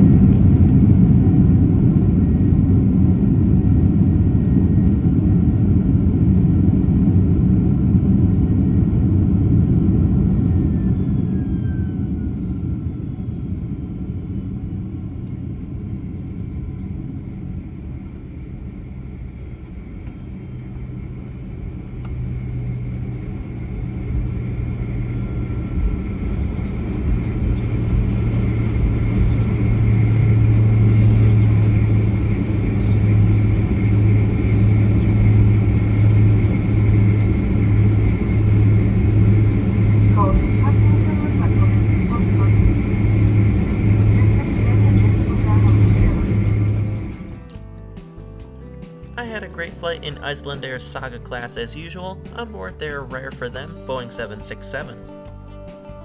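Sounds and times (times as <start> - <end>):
jet engine drone with whine: 0.0 - 47.5
aircraft cabin rumble: 0.0 - 47.6.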